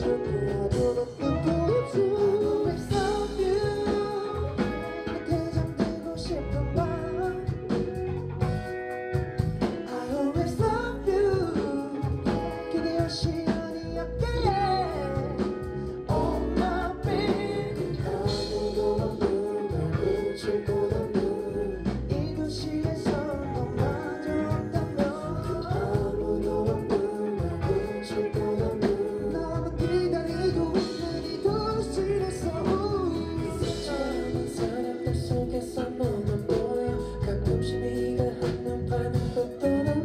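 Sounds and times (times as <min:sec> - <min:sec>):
drum kit: 0:00.0 - 0:40.0
electric guitar: 0:00.0 - 0:40.0
man singing live: 0:00.0 - 0:40.0.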